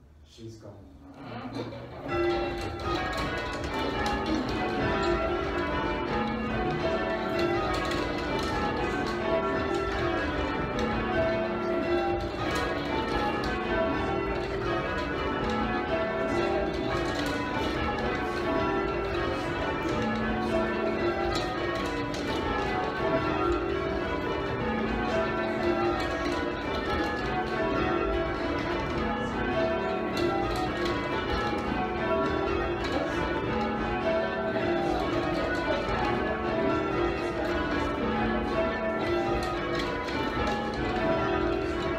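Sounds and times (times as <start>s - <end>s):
church bells change ringing: 1.6s - 41.9s.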